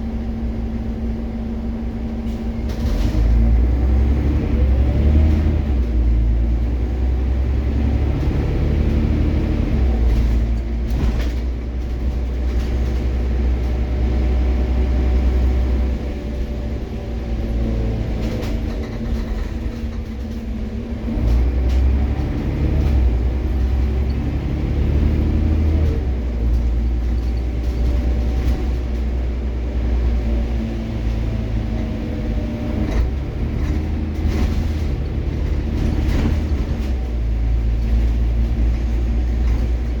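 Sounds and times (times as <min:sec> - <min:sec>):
bus engine rumbling: 0:00.0 - 0:40.0.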